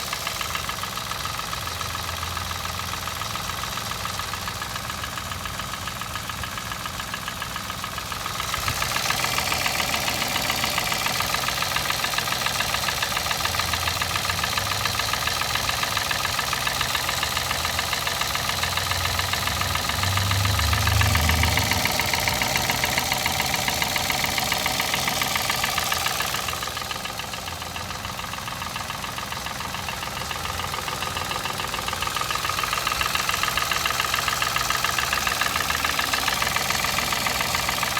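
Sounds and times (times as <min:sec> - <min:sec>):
car engine idling with rhythmic knock: 0:00.0 - 0:37.9.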